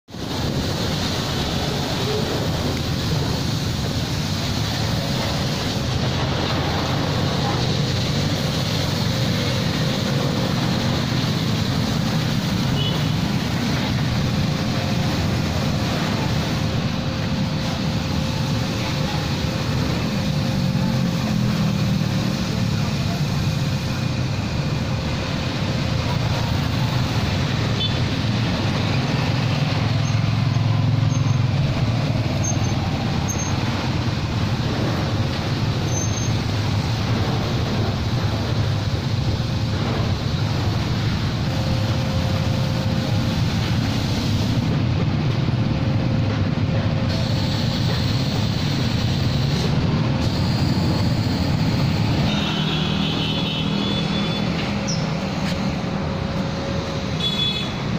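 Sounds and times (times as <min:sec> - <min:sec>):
road traffic passing: 0:00.0 - 0:57.9.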